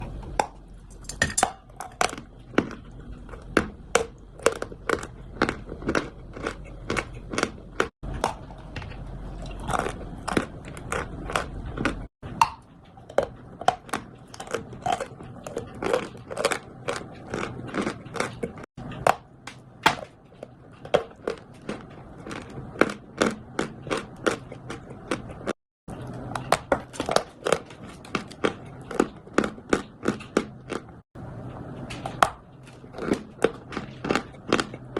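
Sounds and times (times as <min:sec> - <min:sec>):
quiet chewing: 0:01.6 - 0:34.9.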